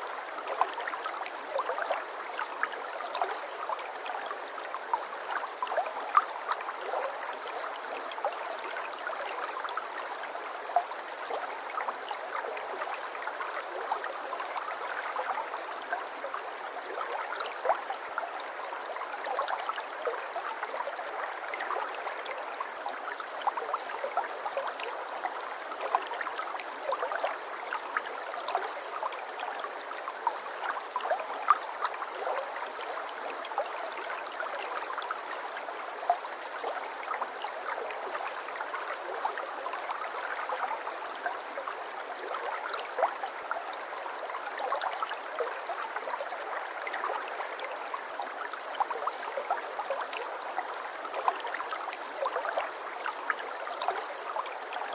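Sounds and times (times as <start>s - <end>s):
stream babbling over stones: 0.1s - 54.9s.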